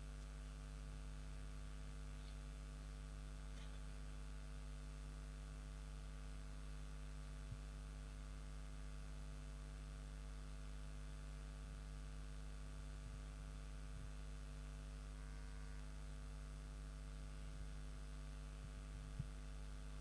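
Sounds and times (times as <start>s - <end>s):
electrical mains hum: 0.0s - 20.0s
faint microphone hiss: 0.0s - 20.0s.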